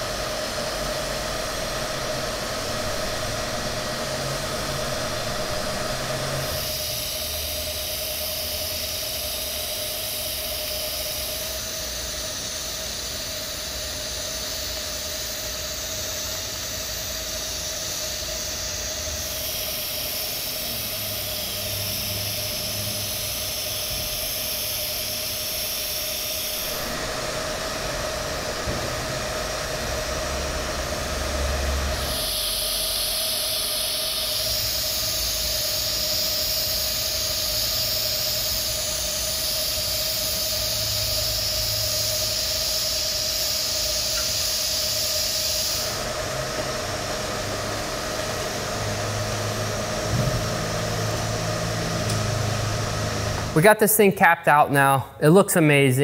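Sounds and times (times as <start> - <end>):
welding arc hissing and humming: 0.0 - 54.1.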